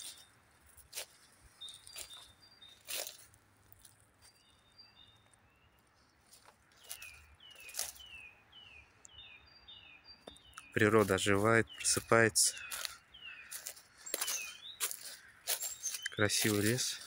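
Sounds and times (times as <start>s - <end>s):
songbirds calling: 0.0s - 17.0s.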